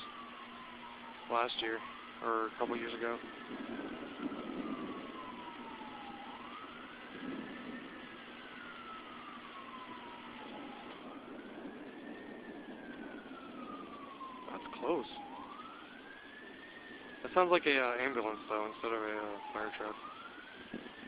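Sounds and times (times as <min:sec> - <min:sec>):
emergency vehicle siren wailing: 0:00.0 - 0:21.0.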